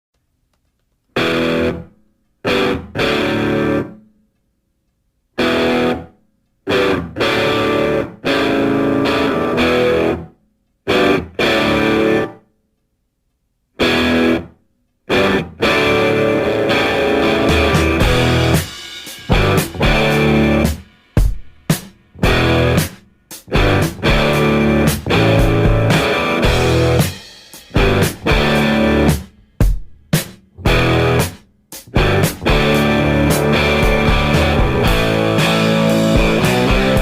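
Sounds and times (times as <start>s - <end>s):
distorted electric guitar chords: 1.2s - 4.0s, 5.4s - 6.1s, 6.7s - 10.3s, 10.9s - 12.4s, 13.8s - 14.5s, 15.1s - 29.8s, 30.6s - 37.0s.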